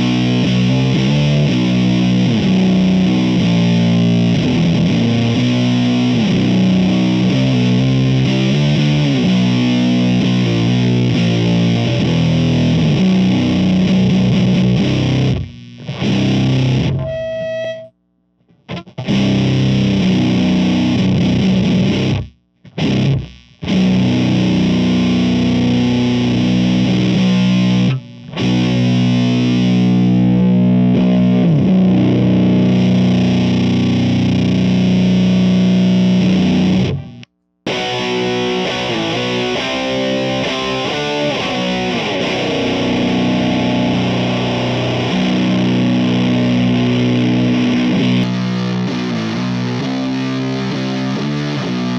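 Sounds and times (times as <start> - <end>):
fuzzed electric guitar riffs: 0.0 - 51.9.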